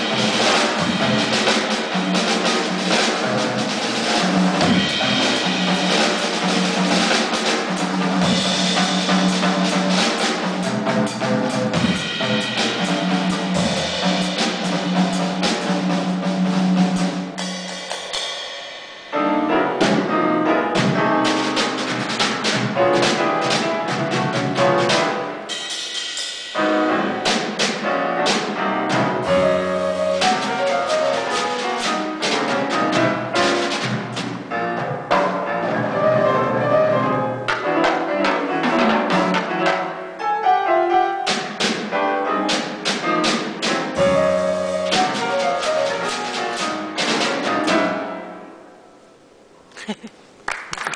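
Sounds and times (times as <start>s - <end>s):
jazz drum kit playing: 0.0s - 48.6s.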